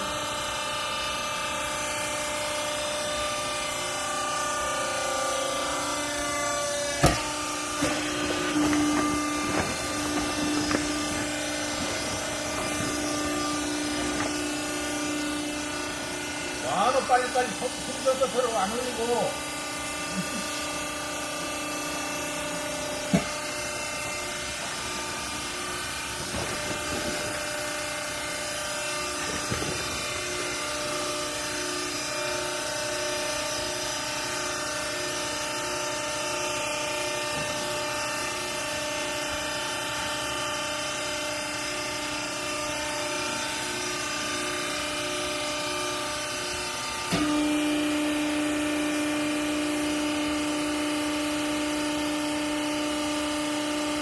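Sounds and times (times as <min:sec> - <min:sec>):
electric motor and pump humming: 0:00.0 - 0:54.0.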